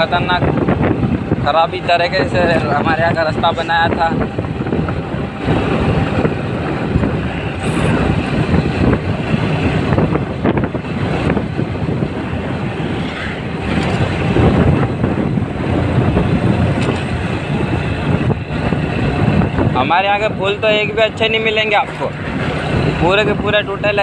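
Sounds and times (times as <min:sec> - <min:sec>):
motorcycle engine rumble: 0:00.0 - 0:24.0.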